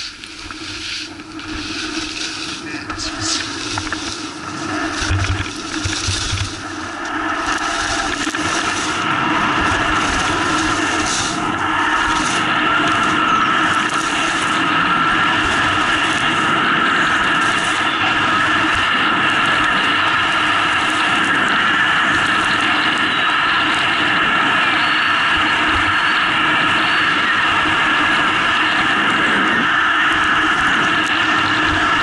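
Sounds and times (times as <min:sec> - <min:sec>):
wind rushing: 0:00.0 - 0:25.7
skis running over packed snow: 0:00.0 - 0:32.0.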